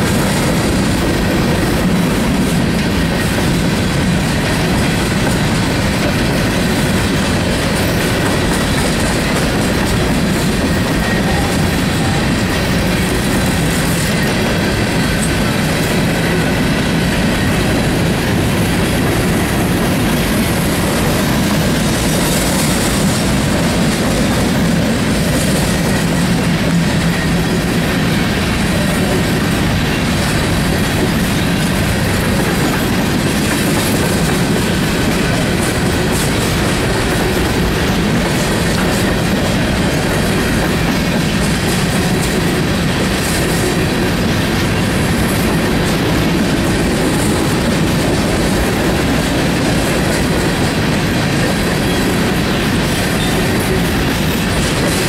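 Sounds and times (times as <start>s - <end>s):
steel train wheels on rails: 0.0s - 55.0s.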